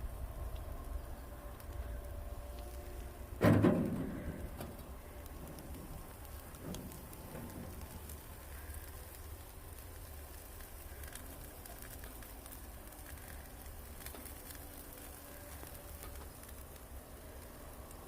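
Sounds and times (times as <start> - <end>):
fish sizzling on grill: 0.0 - 18.0
wood fire crackling: 0.0 - 18.0.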